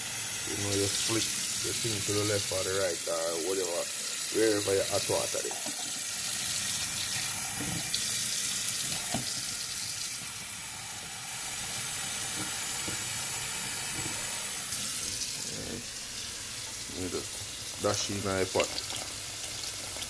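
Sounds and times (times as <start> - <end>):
water running from faucet into sink: 0.0 - 20.0.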